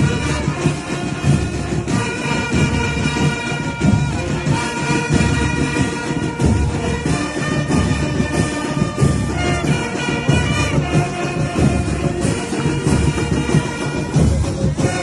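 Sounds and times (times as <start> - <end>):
band playing upbeat music: 0.0 - 15.0.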